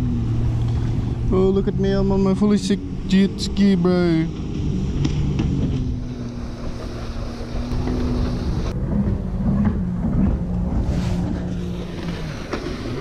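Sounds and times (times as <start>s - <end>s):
jet ski engine running: 0.0s - 13.0s
wind rumble on microphone: 0.0s - 13.0s.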